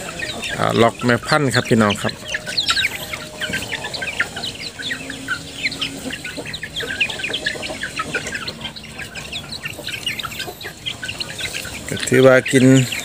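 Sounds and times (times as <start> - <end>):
chicks cheeping and clucking: 0.0 - 13.0.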